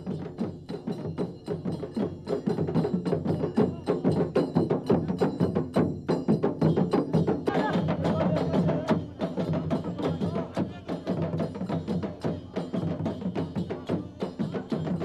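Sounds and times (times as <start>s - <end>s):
fast folk drumming: 0.0s - 15.0s.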